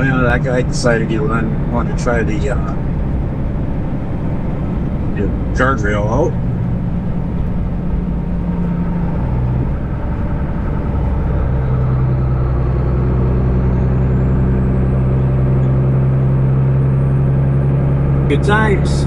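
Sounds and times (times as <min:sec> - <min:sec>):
diesel truck engine drone: 0:00.0 - 0:19.0
faint high whine: 0:00.0 - 0:19.0.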